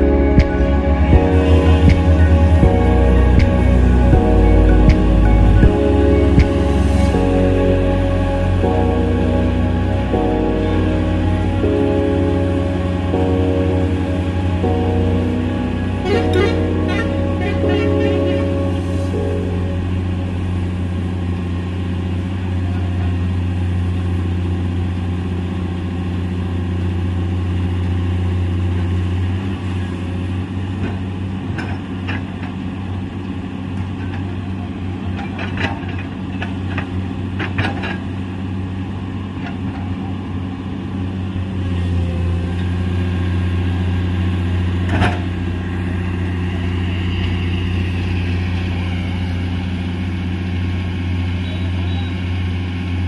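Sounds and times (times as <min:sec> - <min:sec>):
excavator diesel engines droning: 0:00.0 - 0:53.0.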